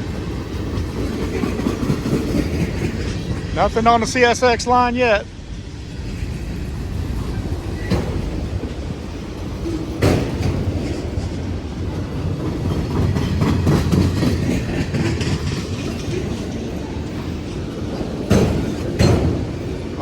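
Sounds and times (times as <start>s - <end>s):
freight train wheels rumbling: 0.0s - 20.0s
wheels clacking over rail joints: 0.0s - 20.0s.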